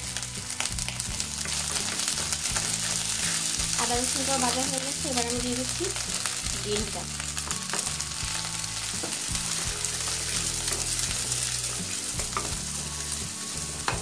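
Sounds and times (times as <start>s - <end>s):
egg sizzling in hot oil: 0.0s - 14.0s.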